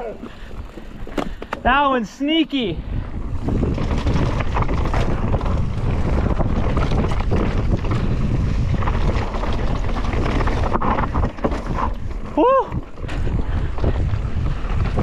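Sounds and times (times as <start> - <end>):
bike rattling over bumps: 0.0 - 2.0, 2.8 - 15.0
tyres rushing on dirt: 0.2 - 15.0
wind buffeting microphone: 2.5 - 15.0.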